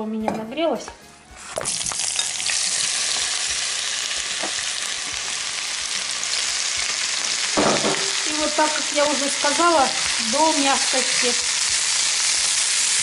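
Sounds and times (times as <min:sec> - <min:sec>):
onions sizzling in oil: 0:01.4 - 0:13.0.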